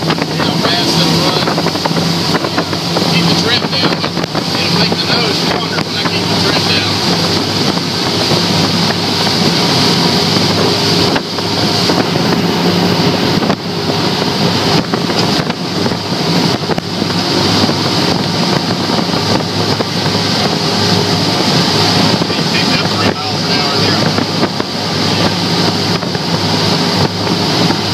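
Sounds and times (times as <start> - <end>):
outboard motors running at speed: 0.0 - 27.9
wind buffeting microphone: 0.0 - 27.9.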